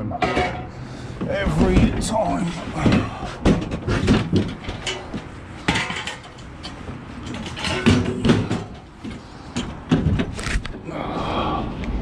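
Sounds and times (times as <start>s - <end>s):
hard objects knocking and clattering: 0.1s - 2.2s, 2.8s - 10.4s.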